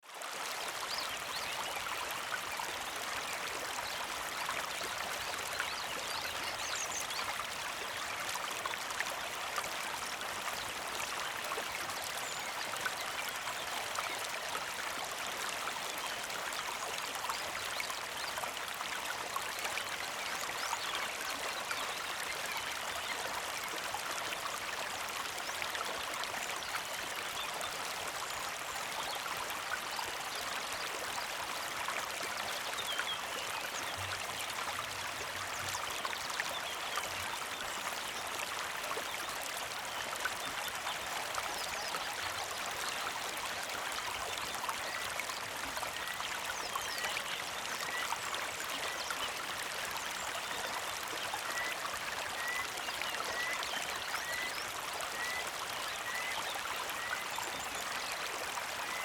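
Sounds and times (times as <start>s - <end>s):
creek trickling: 0.0s - 59.0s.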